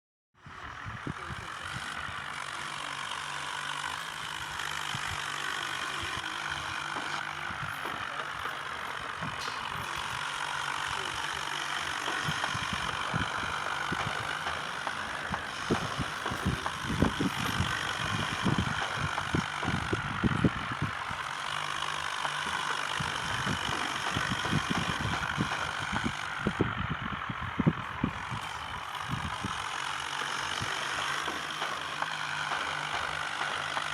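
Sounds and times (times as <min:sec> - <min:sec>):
tractor diesel engine running: 0:00.4 - 0:33.9.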